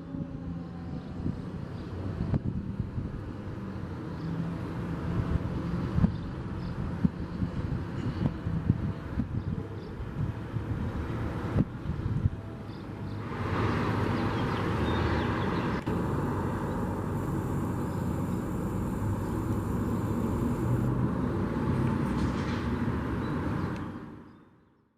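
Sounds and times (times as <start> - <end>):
road traffic rumble: 0.0 - 24.3.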